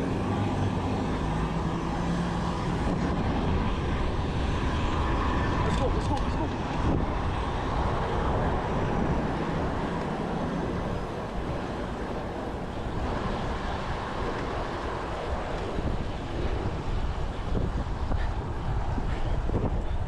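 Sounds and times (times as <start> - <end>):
road noise: 0.0 - 20.0
wind noise on microphone: 0.0 - 20.0.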